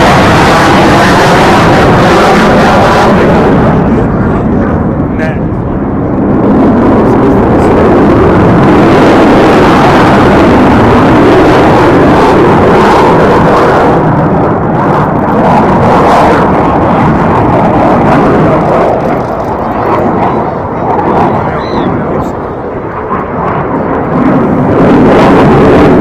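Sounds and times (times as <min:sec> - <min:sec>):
aircraft engine rush: 0:00.0 - 0:26.0.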